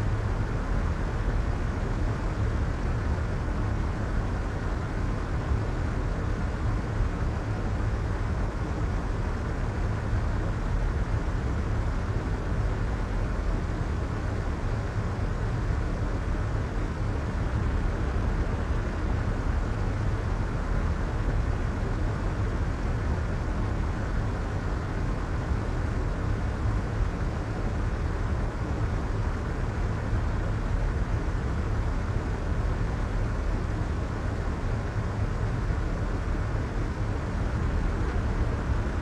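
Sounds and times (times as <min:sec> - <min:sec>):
low muffled white noise: 0:00.0 - 0:39.0.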